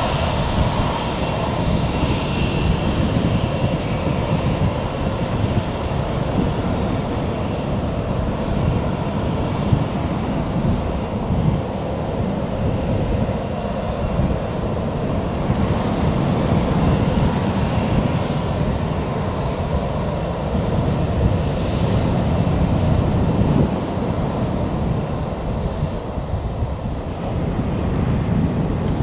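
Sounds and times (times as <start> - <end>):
jet engines idling: 0.0 - 29.0
wind buffeting microphone: 0.0 - 29.0.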